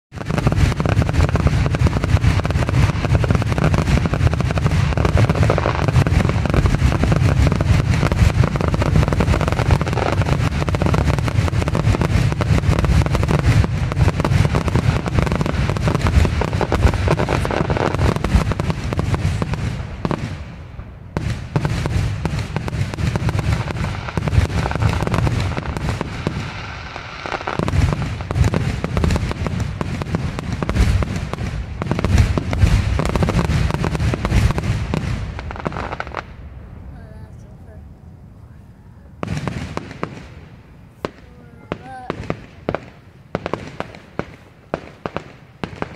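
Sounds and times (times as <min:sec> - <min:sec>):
fireworks booming and crackling: 0:00.1 - 0:37.6, 0:39.0 - 0:45.9.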